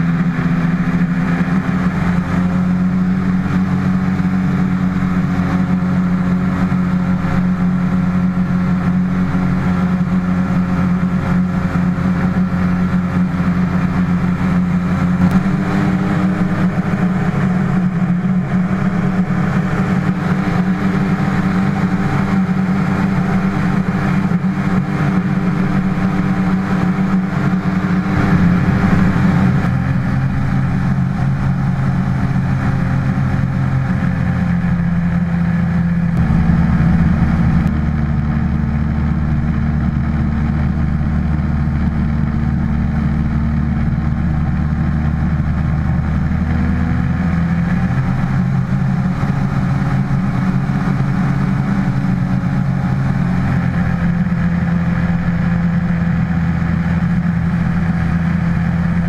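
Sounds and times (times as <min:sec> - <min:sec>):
hovercraft engine and fan running: 0:00.0 - 0:59.0.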